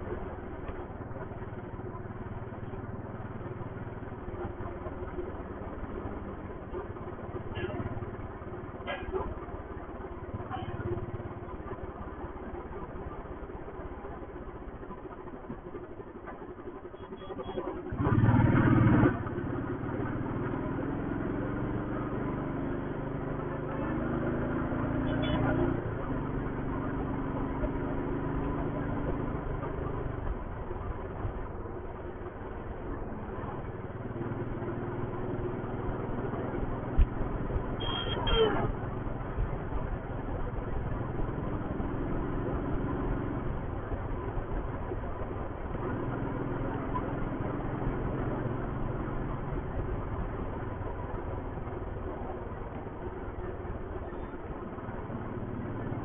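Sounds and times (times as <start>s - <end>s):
motorcycle engine cruising: 0.0s - 56.0s
road noise: 0.0s - 56.0s.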